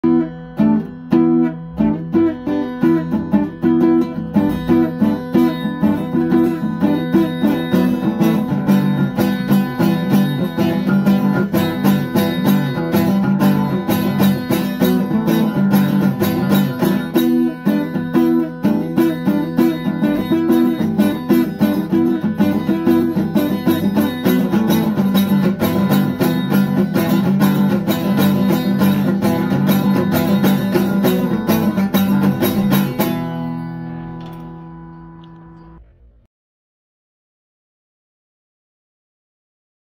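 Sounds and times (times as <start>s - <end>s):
acoustic guitar strumming: 0.0s - 35.9s.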